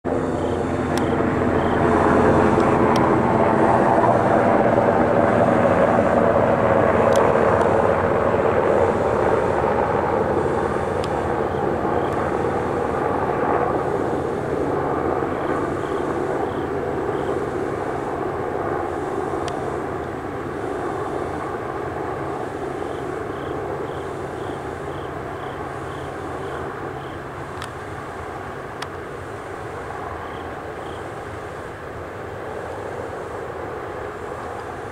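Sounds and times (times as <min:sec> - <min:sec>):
turbine whine: 0:00.0 - 0:34.9.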